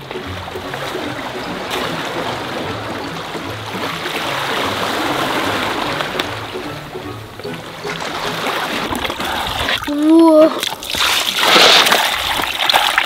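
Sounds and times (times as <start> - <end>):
seawater washing against rocks: 0.0 - 13.0.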